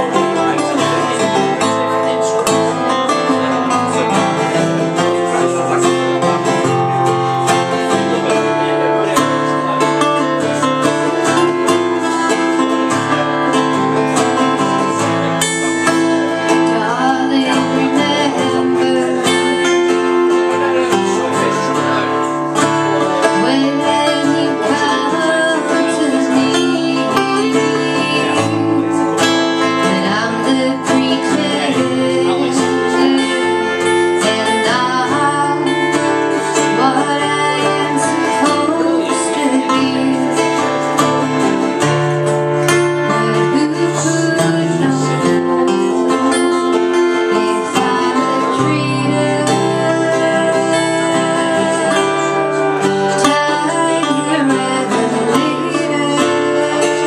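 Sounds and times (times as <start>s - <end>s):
acoustic guitars playing: 0.0s - 57.0s.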